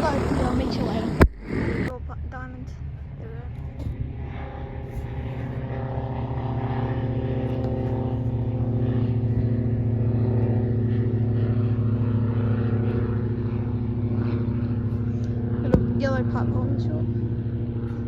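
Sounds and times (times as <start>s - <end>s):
light aircraft engine and propeller: 0.0s - 18.0s.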